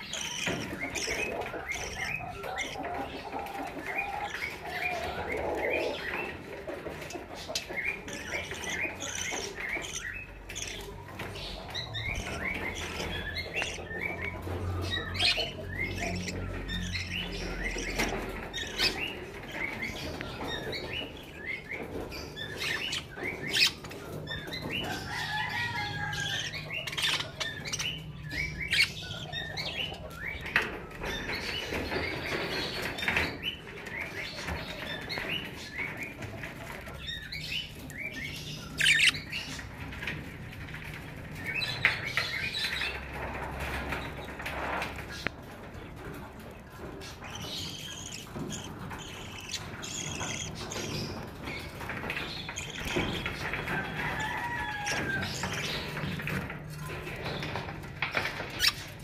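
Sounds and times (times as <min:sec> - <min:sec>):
budgerigars chirping: 0:00.0 - 0:43.0, 0:46.7 - 0:53.8
sharp clicks and rustles: 0:00.0 - 0:59.0.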